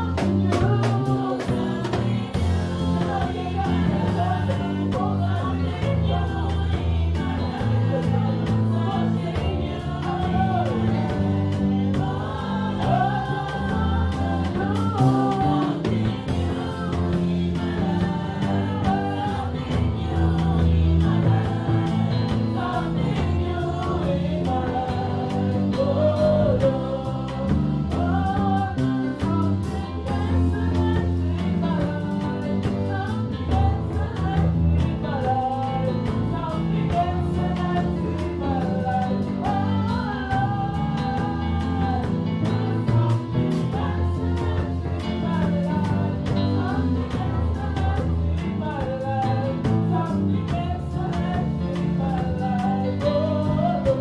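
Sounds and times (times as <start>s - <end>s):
live band with drums: 0.0s - 54.0s
woman singing into a microphone: 0.0s - 54.0s.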